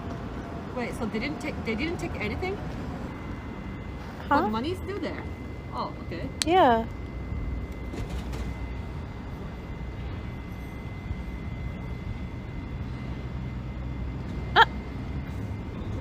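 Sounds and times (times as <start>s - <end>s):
distant traffic rumble: 0.0s - 16.0s.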